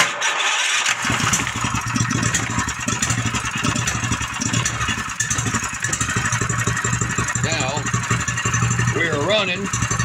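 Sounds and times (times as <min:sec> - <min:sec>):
small engine running steadily: 0:00.9 - 0:10.0.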